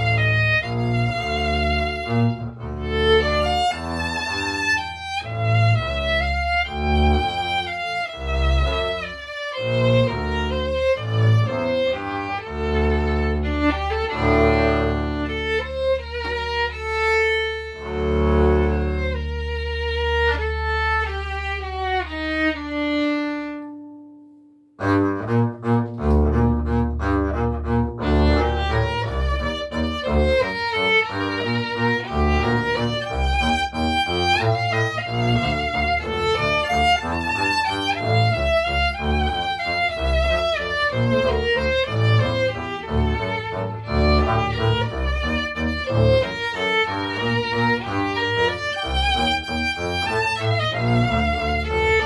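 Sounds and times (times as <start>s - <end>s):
bowed and plucked double bass: 0.0s - 52.0s
violin melody: 0.0s - 52.0s.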